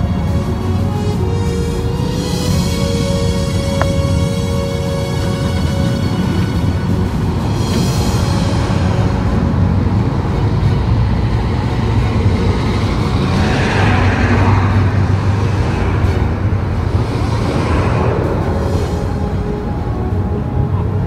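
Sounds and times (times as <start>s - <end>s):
road traffic noise: 0.0s - 21.0s
vehicle passing by: 2.0s - 21.0s.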